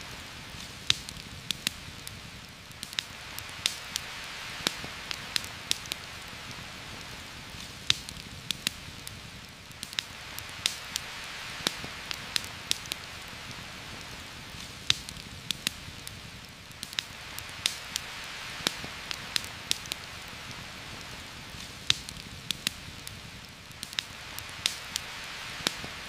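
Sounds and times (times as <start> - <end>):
campfire crackling and popping: 0.0 - 26.0
rain hissing: 0.0 - 26.0.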